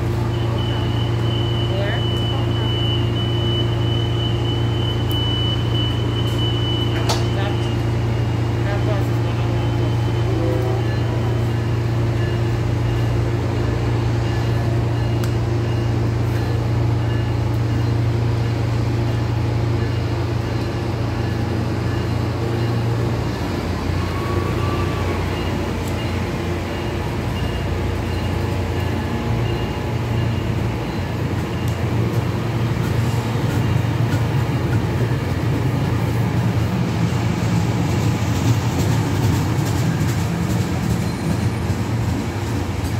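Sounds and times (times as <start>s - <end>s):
train rolling past: 0.0s - 42.9s.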